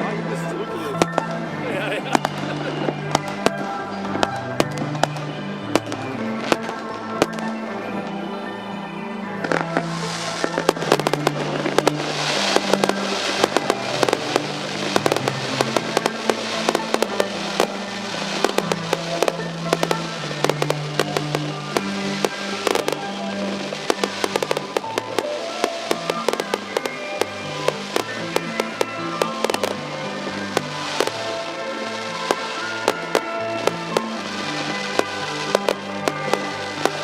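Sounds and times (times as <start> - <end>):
fireworks bangs and pops: 0.0 - 8.4, 9.3 - 37.0
fireworks crackling hiss: 0.0 - 37.0
music with held low notes: 0.0 - 37.0.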